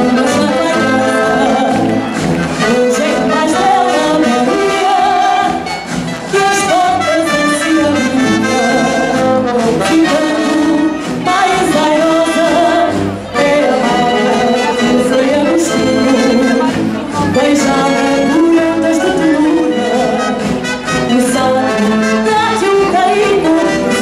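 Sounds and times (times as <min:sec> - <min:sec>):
brass band playing a march: 0:00.0 - 0:24.0
marchers singing along: 0:00.0 - 0:24.0.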